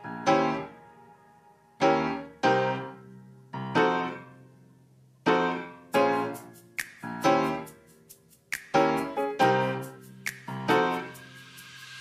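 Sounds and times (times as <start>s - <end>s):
slow piano chords: 0.0s - 8.1s, 8.7s - 12.0s.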